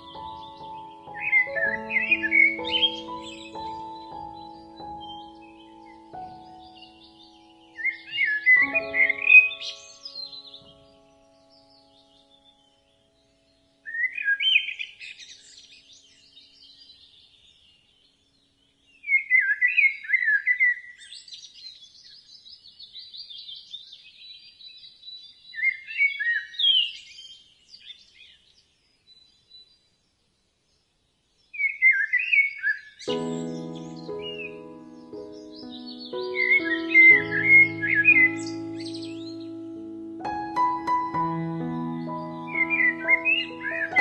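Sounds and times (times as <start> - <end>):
bird chirps and trills: 0.0 - 30.0, 31.4 - 44.0
soft bird twittering: 0.0 - 30.0, 31.4 - 44.0.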